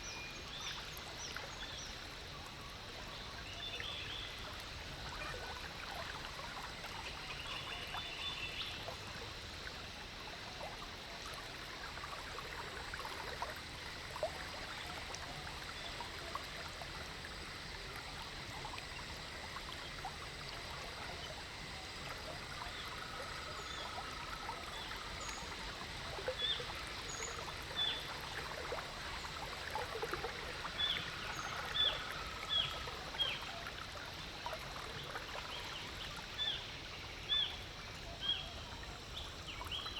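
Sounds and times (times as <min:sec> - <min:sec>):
water lapping against a boat: 0:00.0 - 0:39.9.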